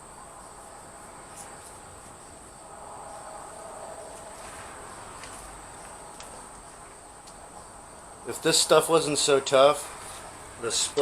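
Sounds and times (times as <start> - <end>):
faint low hum: 0.0 - 11.0
insects trilling: 0.0 - 11.0.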